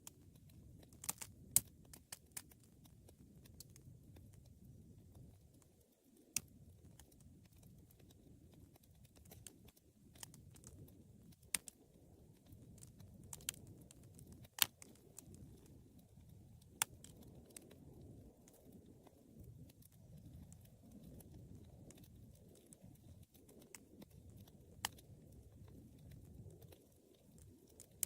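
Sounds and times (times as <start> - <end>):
flames rumbling: 0.0 - 28.0
wood fire popping and snapping: 0.0 - 28.0.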